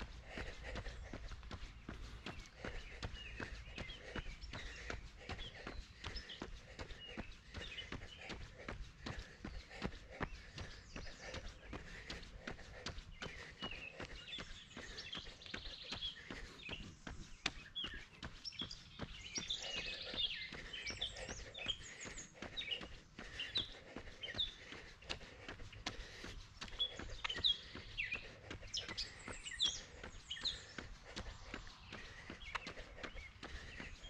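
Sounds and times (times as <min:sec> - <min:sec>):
birds chirping and singing: 0:00.0 - 0:34.0.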